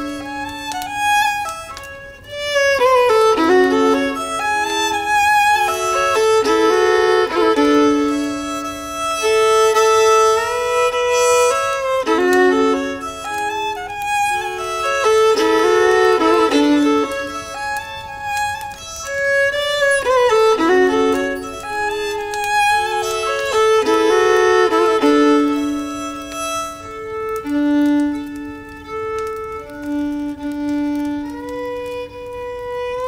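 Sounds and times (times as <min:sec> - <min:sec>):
violins playing a slow tune: 0:00.0 - 0:33.0.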